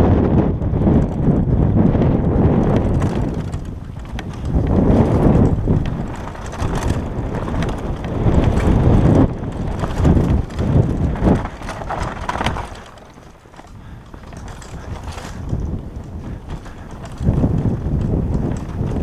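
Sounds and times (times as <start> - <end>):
bike tyres rumbling on dirt: 0.0 - 19.0
wind buffeting microphone: 0.0 - 19.0
bike rattling over rocks: 0.3 - 19.0.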